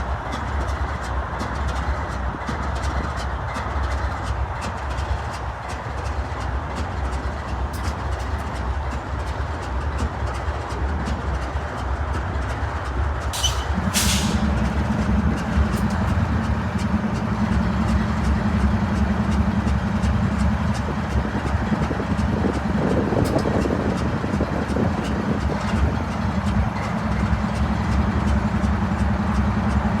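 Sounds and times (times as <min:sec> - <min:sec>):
locomotive engine drone: 0:00.0 - 0:30.0.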